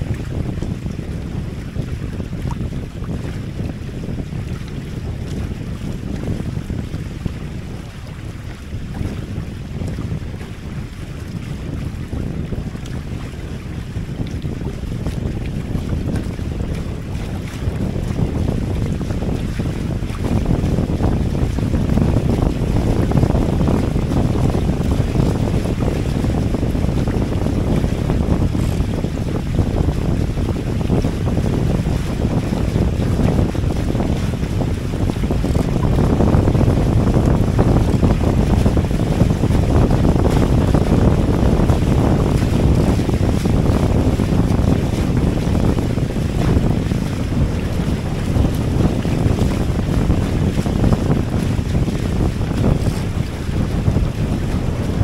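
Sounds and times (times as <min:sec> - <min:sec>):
water rushing along hulls: 0:00.0 - 0:55.0
wind on microphone: 0:00.0 - 0:55.0.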